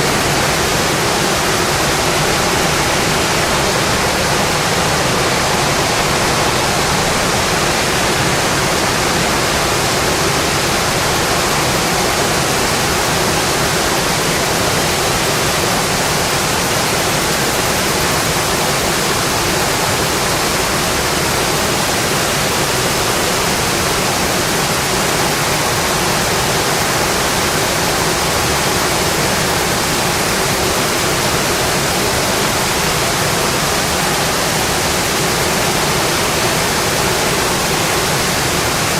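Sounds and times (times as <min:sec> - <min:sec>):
rain on a metal roof: 0:00.0 - 0:38.9.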